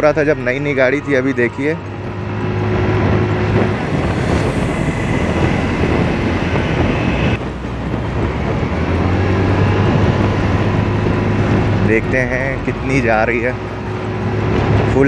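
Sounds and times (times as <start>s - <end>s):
scooter engine accelerating: 0.0s - 13.0s
wind and road noise: 0.0s - 15.0s.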